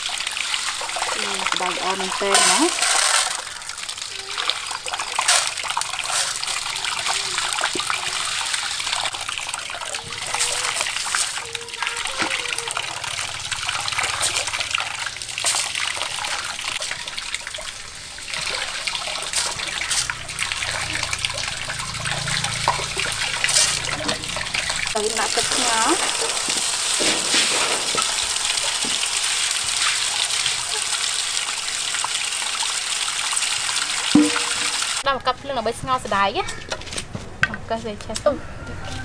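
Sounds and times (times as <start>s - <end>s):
beans rinsed and stirred by hand: 0.0s - 35.1s
small water splashes: 0.0s - 35.1s
water running into metal basin: 0.0s - 36.1s.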